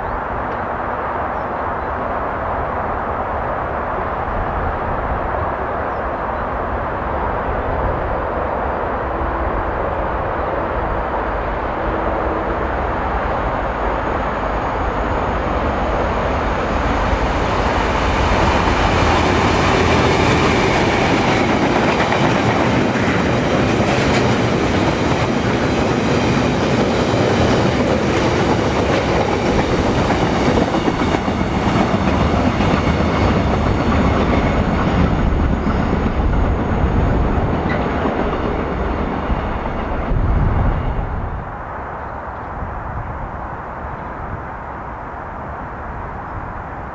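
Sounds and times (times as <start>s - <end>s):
diesel locomotive passing: 0.0s - 46.9s.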